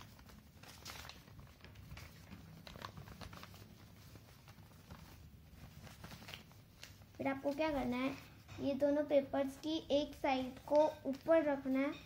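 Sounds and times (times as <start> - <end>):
paper rustling as folded: 0.0 - 12.0
soft crackles: 0.0 - 12.0.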